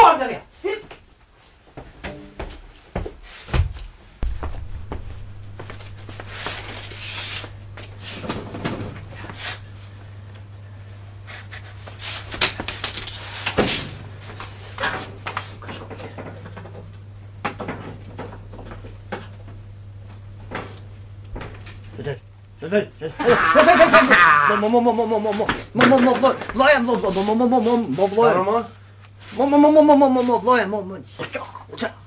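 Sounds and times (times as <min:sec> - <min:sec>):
steady low hum: 0:01.2 - 0:32.0.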